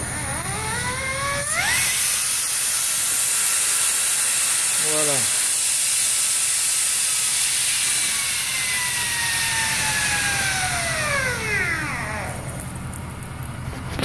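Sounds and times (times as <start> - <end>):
air line hissing: 0.0 - 13.6
rotary cleaning head whine: 0.0 - 14.0.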